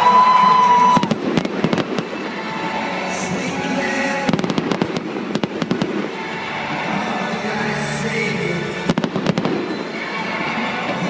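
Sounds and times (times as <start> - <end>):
fireworks hissing: 0.5 - 10.9.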